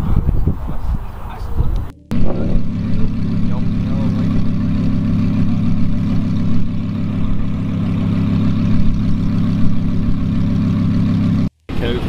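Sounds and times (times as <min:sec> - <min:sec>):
car engine idling: 0:01.6 - 0:12.0.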